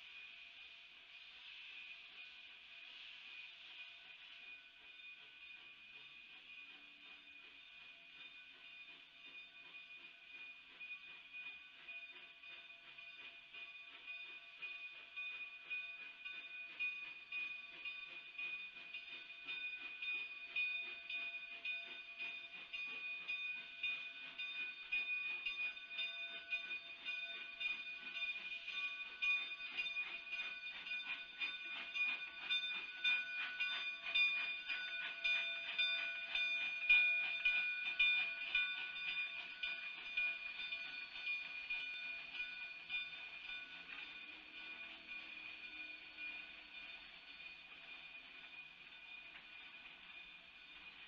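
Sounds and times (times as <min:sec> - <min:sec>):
steam locomotive chuffing: 0:00.0 - 0:51.0
train coaches rolling past: 0:00.0 - 0:51.0.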